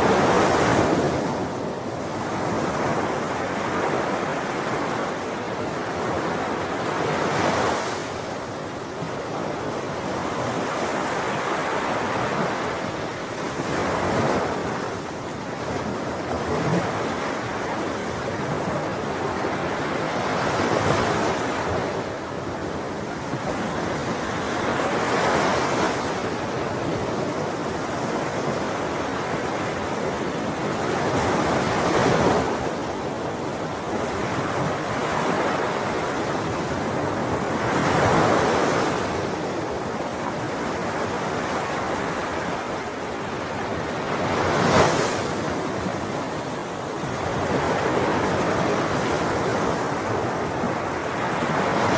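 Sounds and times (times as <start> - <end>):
ocean waves breaking on shore: 0.0 - 51.9.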